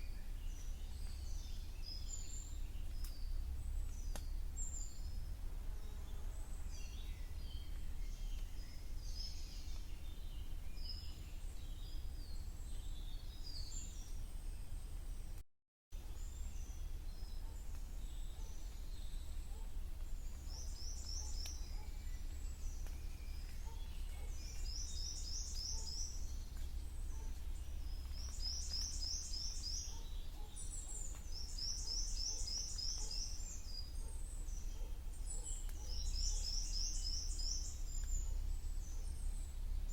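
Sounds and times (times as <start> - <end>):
birds singing and calling: 0.0 - 15.4, 16.0 - 39.9.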